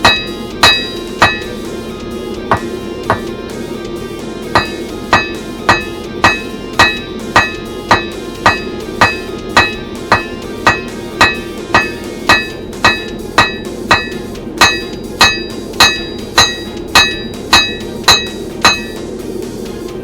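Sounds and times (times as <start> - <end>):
hammer striking steel on anvil: 0.0 - 3.5, 4.4 - 19.2.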